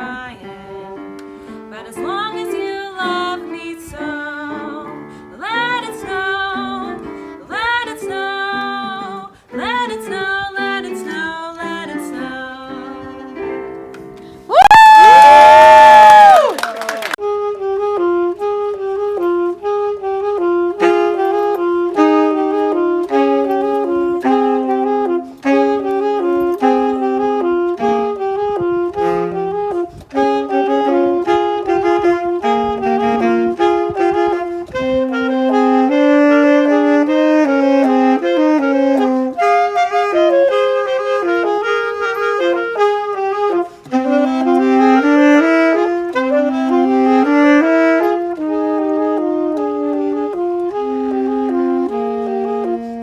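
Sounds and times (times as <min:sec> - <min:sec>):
wind instrument melody: 0:00.0 - 0:53.0.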